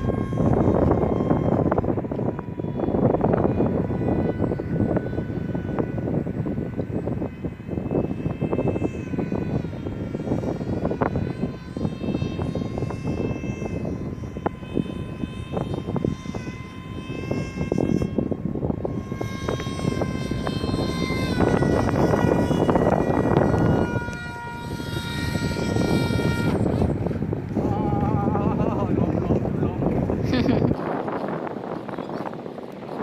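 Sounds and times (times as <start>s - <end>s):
electric motor whining: 0.0s - 33.0s
wind buffeting microphone: 0.0s - 33.0s.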